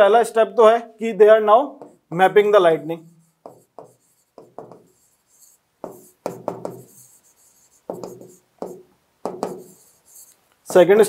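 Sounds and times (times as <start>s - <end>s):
stylus tapping and scraping screen: 1.6s - 11.0s.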